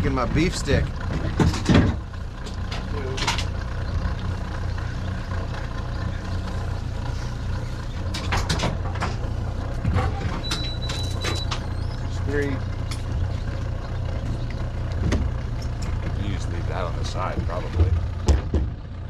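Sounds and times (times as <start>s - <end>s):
outboard motors idling: 0.0s - 19.0s.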